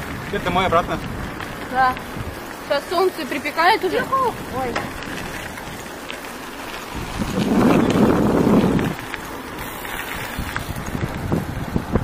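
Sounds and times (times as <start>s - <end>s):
bicycle rolling on asphalt: 0.0s - 12.0s
wind buffeting microphone: 0.0s - 12.0s.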